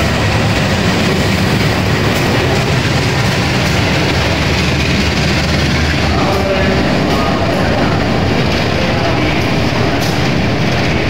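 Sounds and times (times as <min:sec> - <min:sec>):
diesel engine drone: 0:00.0 - 0:11.0
train wheels on rails: 0:00.0 - 0:11.0.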